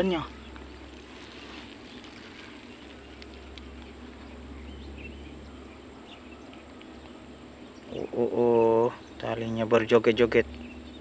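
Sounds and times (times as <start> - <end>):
crickets droning: 0.0 - 11.0.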